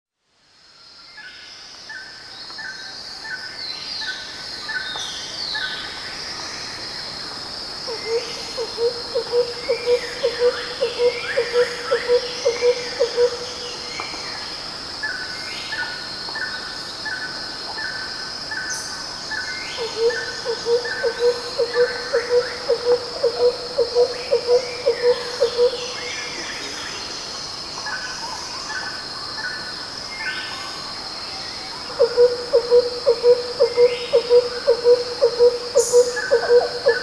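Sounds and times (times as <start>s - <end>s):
high insect drone: 0.4s - 37.0s.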